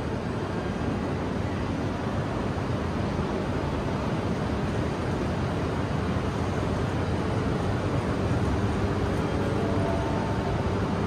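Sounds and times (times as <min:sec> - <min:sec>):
trains rumbling at platform: 0:00.0 - 0:11.0.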